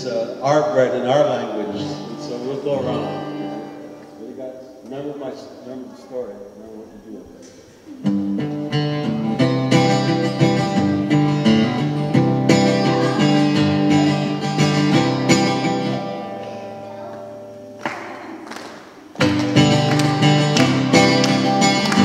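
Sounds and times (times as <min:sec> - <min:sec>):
acoustic guitar strumming chords: 0:00.0 - 0:05.3, 0:07.8 - 0:22.0.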